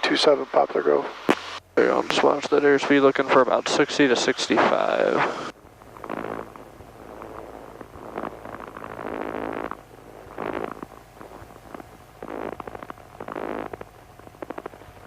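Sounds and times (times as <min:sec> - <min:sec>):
aircraft engine droning: 0:00.0 - 0:15.0
rough crackly bursts: 0:01.0 - 0:15.0.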